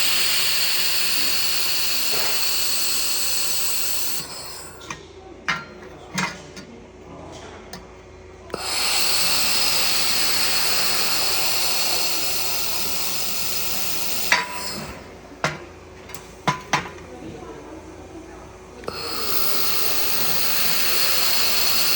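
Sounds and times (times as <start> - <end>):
welding hiss: 0.0 - 5.0, 8.5 - 21.9.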